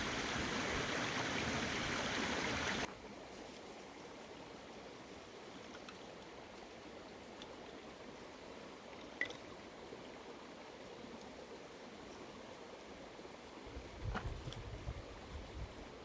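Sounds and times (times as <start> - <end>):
faint stream flowing: 0.0 - 16.0.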